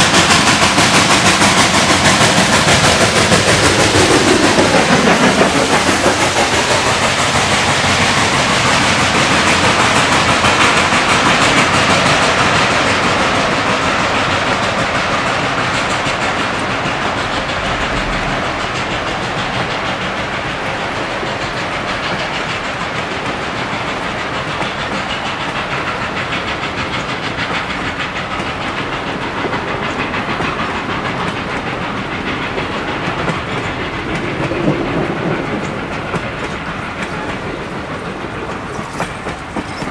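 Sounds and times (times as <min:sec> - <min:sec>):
steam locomotive hiss and clatter: 0:00.0 - 0:39.9.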